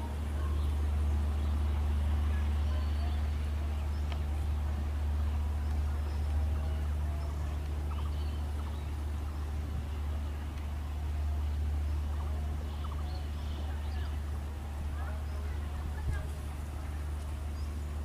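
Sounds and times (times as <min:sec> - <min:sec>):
diesel locomotive rumble: 0:00.0 - 0:18.0
faint voices: 0:00.0 - 0:18.0.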